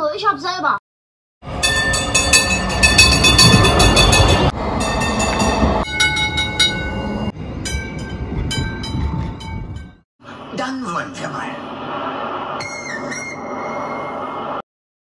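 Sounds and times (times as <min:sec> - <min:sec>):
tram rumbling on rails: 0:01.4 - 0:14.6.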